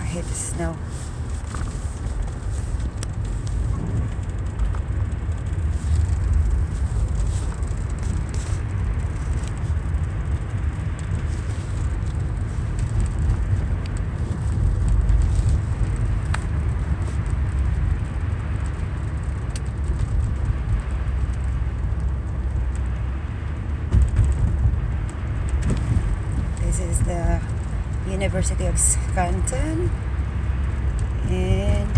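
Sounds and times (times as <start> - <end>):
car driving on road: 0.0 - 31.9.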